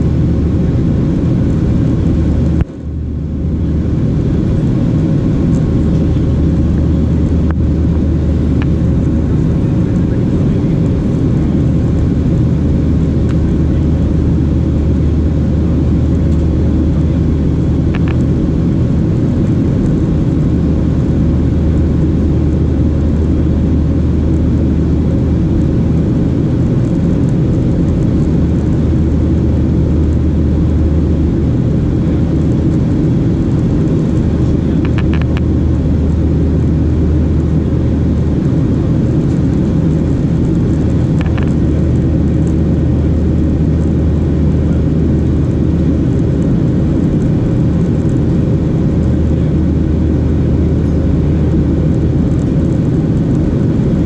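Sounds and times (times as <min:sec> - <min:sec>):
airplane cabin low rumble: 0:00.0 - 0:54.0.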